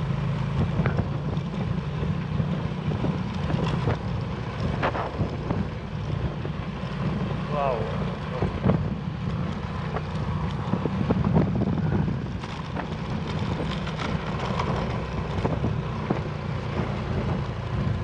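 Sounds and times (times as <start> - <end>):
knocks and rattles from rough road: 0.0 - 18.0
motorcycle engine running: 0.0 - 18.0
wind noise on microphone: 0.0 - 18.0.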